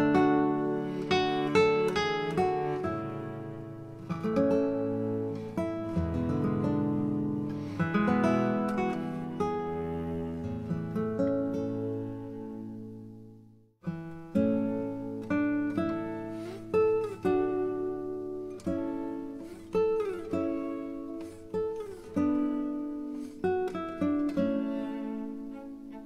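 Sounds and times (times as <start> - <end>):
plucked acoustic guitar: 0.0 - 26.0.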